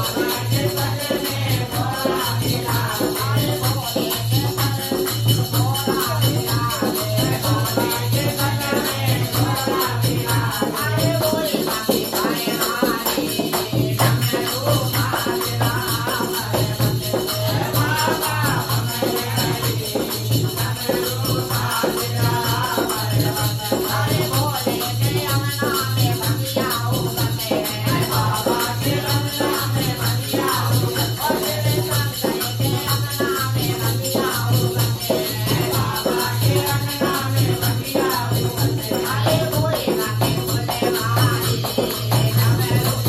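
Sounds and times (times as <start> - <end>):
dholak drum beating: 0.0 - 43.0
group devotional singing: 0.0 - 43.0
jingling hand percussion: 0.0 - 43.0.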